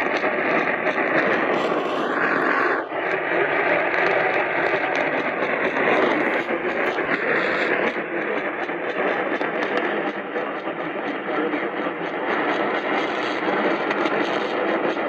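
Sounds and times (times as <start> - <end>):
radio static hiss: 0.0 - 14.8.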